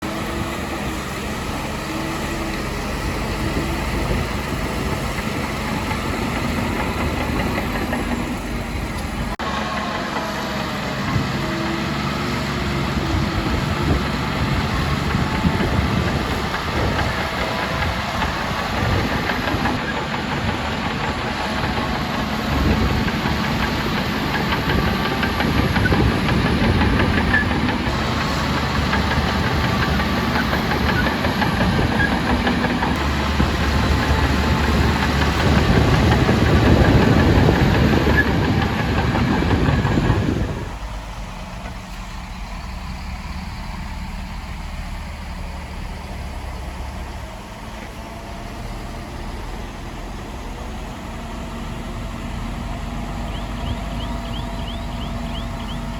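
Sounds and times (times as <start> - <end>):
heavy machinery diesel engines: 0.0 - 55.9.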